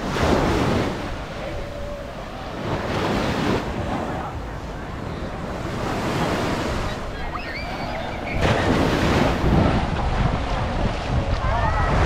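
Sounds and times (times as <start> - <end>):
ocean surf breaking on shore: 0.0 - 12.0
wind on microphone: 0.0 - 12.0.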